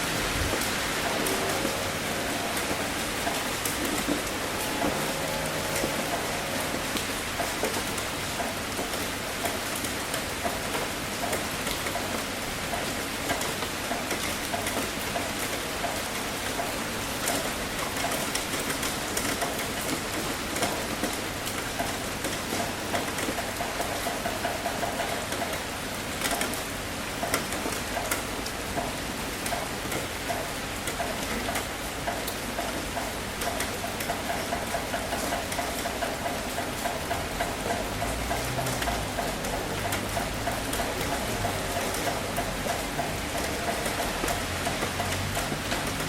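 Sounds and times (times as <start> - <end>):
heavy rain on a tin roof: 0.0 - 46.0.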